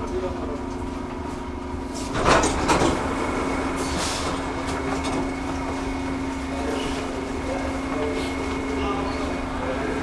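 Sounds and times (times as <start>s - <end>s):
train carriage hum: 0.0s - 10.0s.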